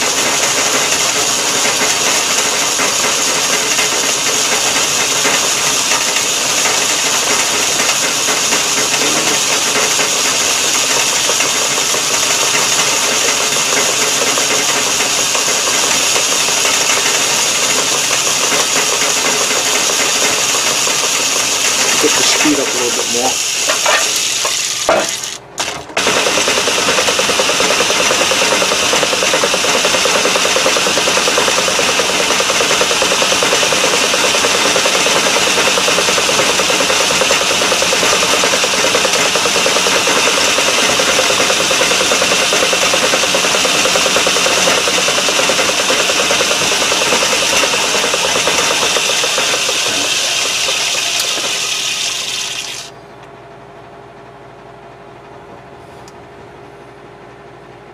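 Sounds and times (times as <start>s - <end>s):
metal lathe cutting: 0.0s - 53.0s.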